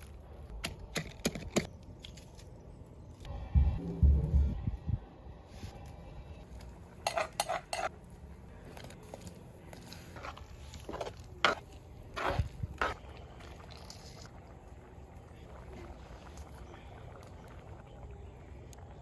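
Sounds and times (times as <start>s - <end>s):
low steady hum: 1.7s - 19.0s.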